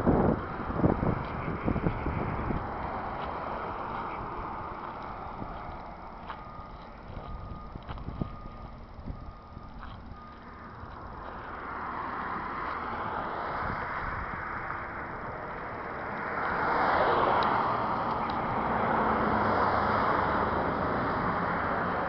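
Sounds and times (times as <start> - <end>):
highway traffic rushing: 0.0 - 22.0
vehicle passing close: 0.0 - 22.0.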